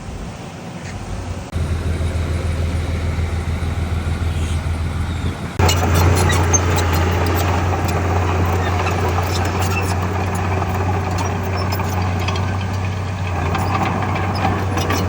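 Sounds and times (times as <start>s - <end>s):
heavy machinery engine drone: 1.4s - 15.0s
machinery clanking: 1.5s - 15.0s.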